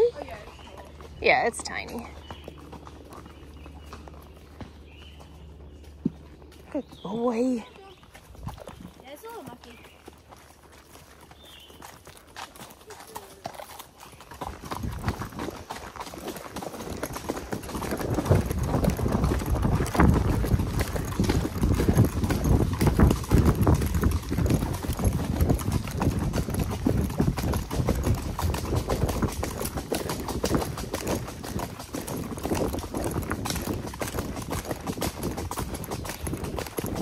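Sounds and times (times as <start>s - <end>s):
horse hoofbeats clip-clop: 0.0s - 37.0s.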